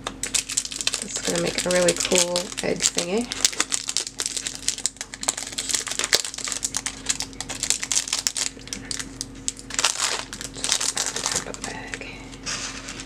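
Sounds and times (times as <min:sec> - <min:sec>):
plastic packaging crinkling: 0:00.2 - 0:13.0.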